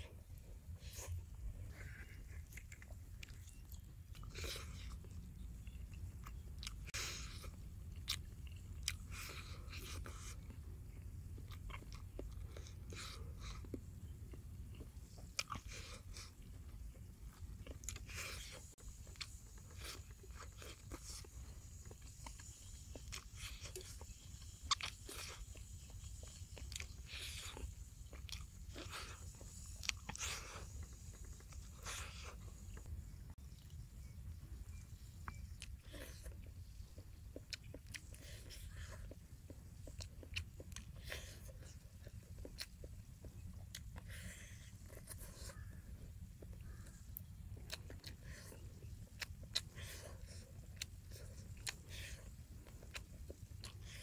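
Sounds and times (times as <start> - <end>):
person chewing crisp food: 0.0 - 54.0.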